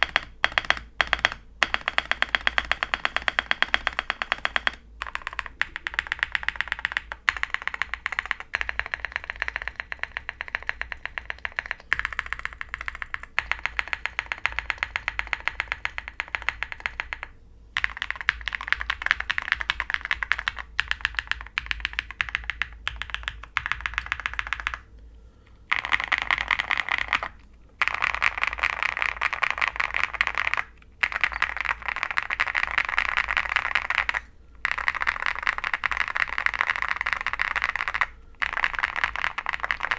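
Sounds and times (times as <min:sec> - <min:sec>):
mechanical keyboard typing: 0:00.0 - 0:24.9, 0:25.7 - 0:39.9.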